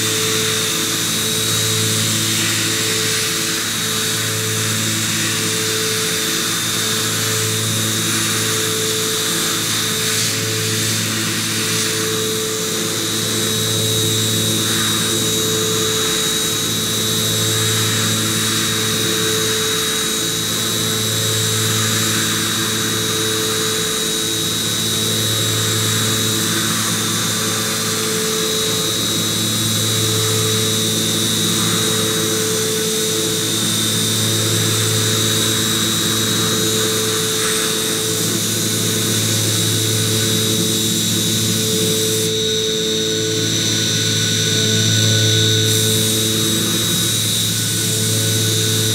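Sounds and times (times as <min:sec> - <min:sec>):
constant high whine: 0:00.0 - 0:48.9.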